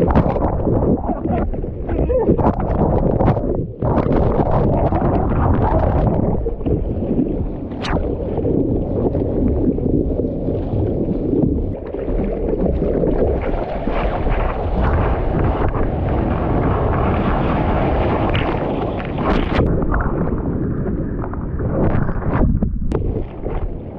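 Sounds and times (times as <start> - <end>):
rough surf: 0.0 - 23.9
strong wind buffeting microphone: 0.0 - 23.9.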